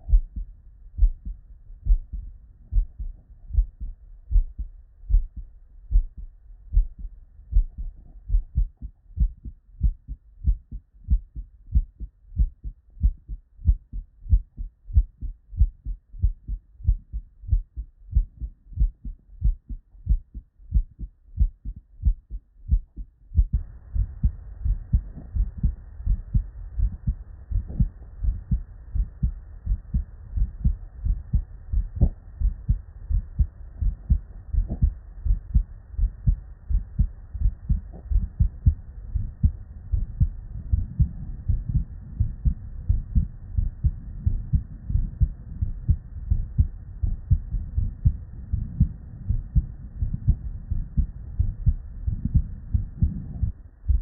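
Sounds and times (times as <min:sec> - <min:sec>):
heartbeat through stethoscope: 0:00.0 - 0:54.0.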